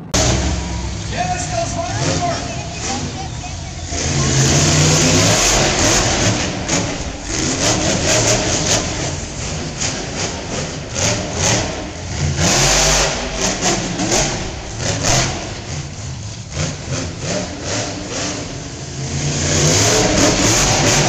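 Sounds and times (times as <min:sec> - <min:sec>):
loud rush of noise: 0:00.0 - 0:21.0
truck engine revving hard: 0:00.0 - 0:21.0.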